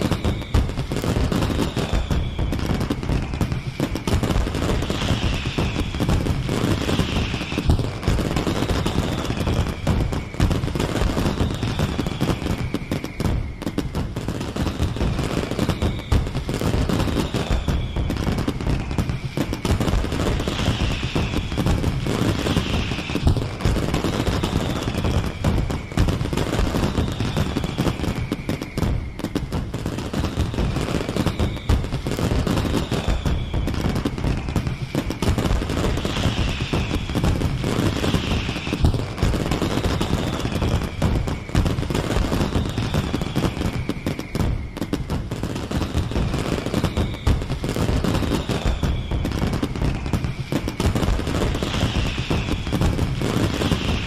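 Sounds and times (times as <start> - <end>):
falling firework whistles: 0.0 - 54.0
fireworks crackling and booming: 0.0 - 54.0.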